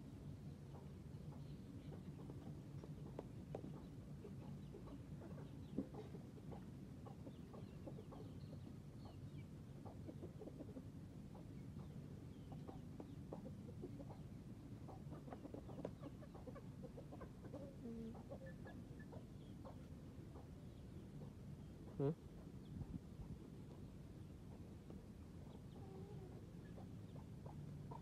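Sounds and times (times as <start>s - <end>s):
low steady background rumble: 0.0s - 28.0s
faint bird calls: 0.6s - 28.0s.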